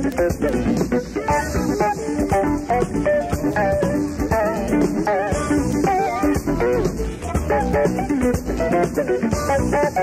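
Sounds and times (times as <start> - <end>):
live jazz band: 0.0 - 10.0
melodic guitar lines: 0.0 - 10.0.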